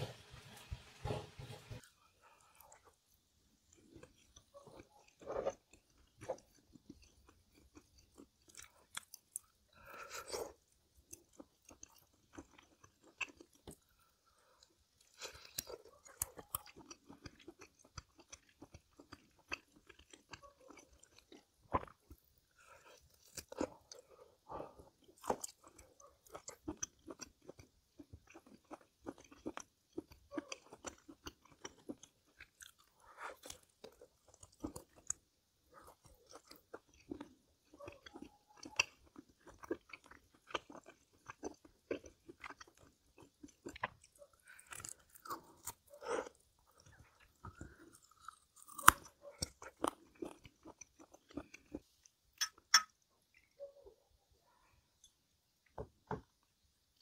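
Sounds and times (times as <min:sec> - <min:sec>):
person chewing and crunching food: 0:00.0 - 0:57.0.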